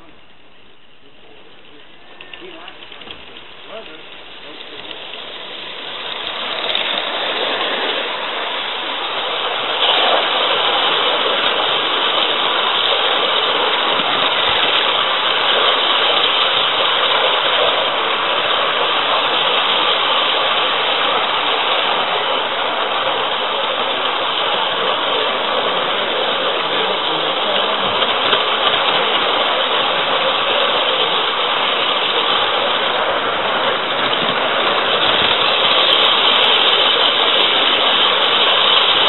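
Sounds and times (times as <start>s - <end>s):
model steam train rushing: 0.0s - 39.0s.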